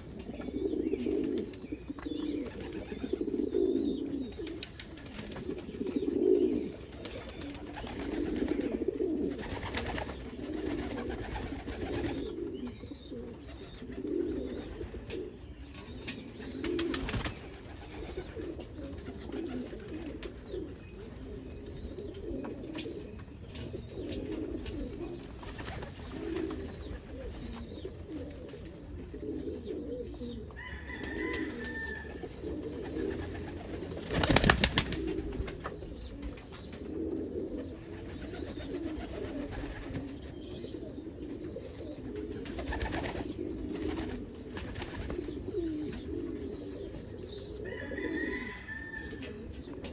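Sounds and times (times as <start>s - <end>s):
pigeon cooing: 0.0s - 49.9s.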